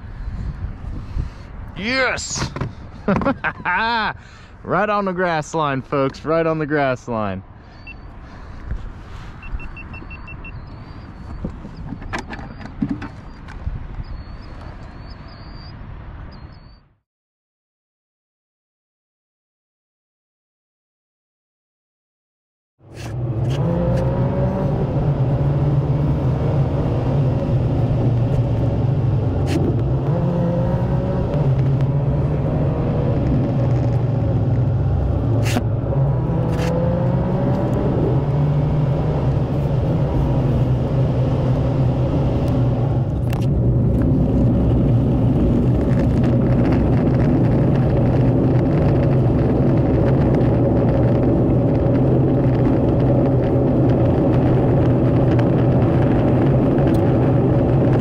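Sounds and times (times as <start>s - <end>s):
car engine and tyre noise: 0.0s - 17.0s, 22.8s - 58.0s.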